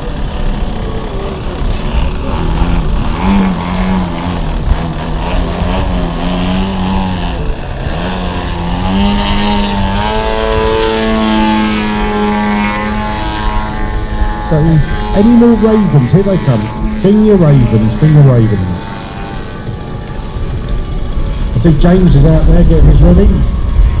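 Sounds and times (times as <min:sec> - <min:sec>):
model aeroplane motor droning: 0:00.0 - 0:24.0.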